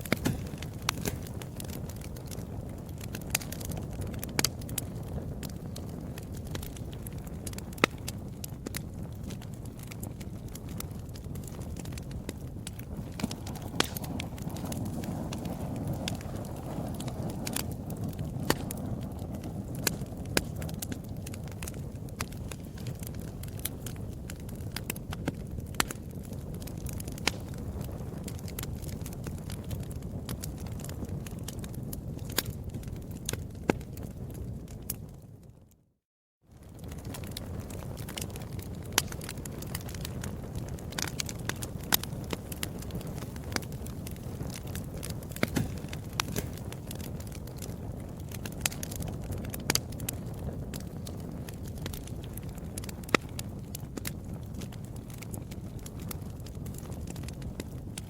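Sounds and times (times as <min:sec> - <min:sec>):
wood fire crackling: 0:00.0 - 0:35.8, 0:36.5 - 0:58.0.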